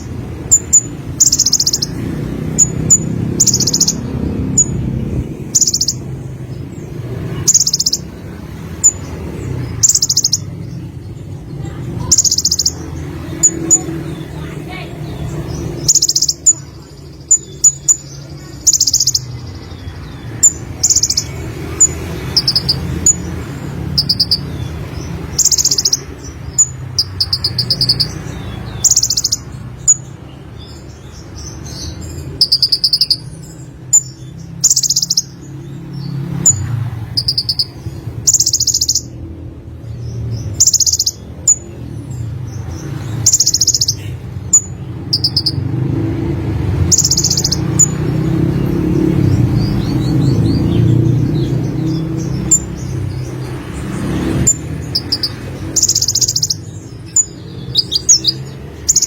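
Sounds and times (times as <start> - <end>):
bird trills and chirps: 0.0 - 59.0.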